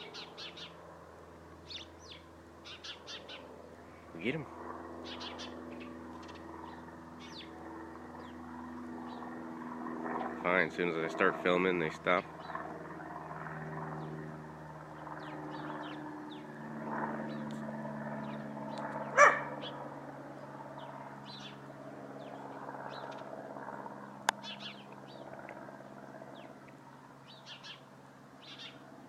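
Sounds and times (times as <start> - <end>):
small birds chirping: 0.0 - 0.9, 1.6 - 9.4, 12.1 - 29.0
low mechanical hum: 0.0 - 29.0.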